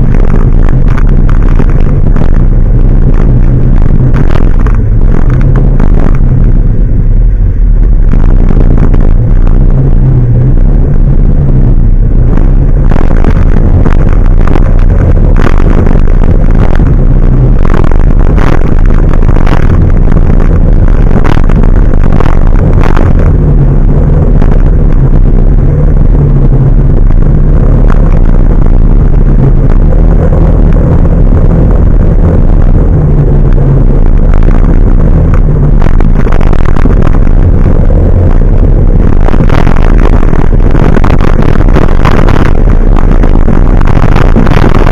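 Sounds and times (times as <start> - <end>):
truck engine droning: 0.0 - 44.9.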